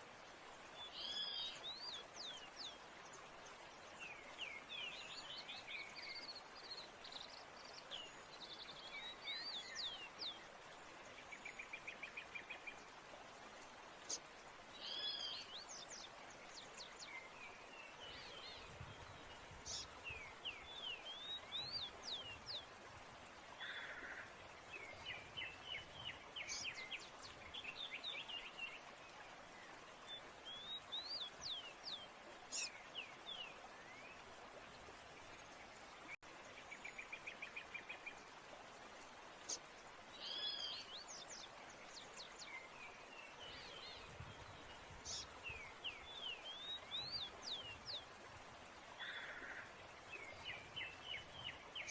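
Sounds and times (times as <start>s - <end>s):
faint hiss: 0.0s - 51.9s
songbirds chirping and trilling: 0.4s - 51.9s.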